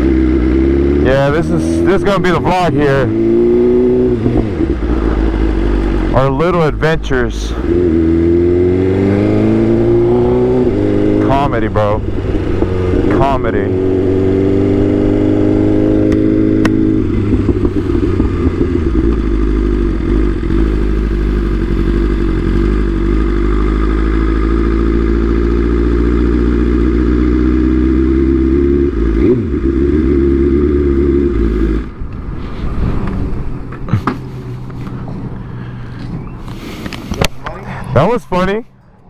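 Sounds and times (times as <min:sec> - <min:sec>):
motorcycle engine running: 0:00.0 - 0:32.4, 0:33.0 - 0:37.6.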